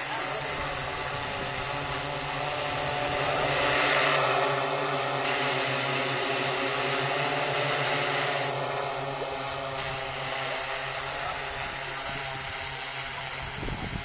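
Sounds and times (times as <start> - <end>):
drone rotors humming: 0.0 - 14.0.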